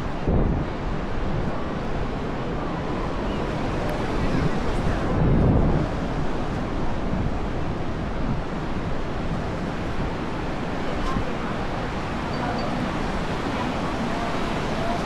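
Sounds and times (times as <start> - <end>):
sea waves washing onto beach: 0.0 - 15.0
wind buffeting microphone: 0.0 - 15.0.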